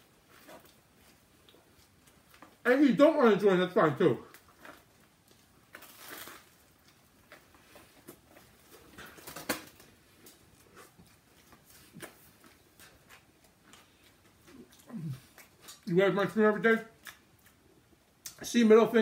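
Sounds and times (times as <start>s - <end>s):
person chewing a sandwich: 0.0s - 2.6s, 4.2s - 16.0s, 16.9s - 18.4s.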